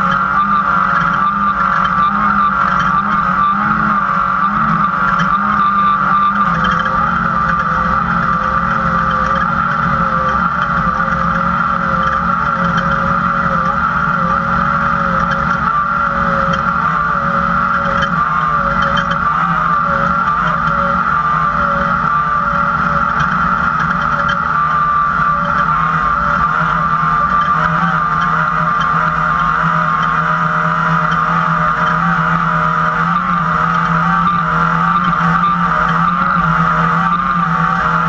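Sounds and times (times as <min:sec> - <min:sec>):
truck engine at high revs: 0:00.0 - 0:38.0.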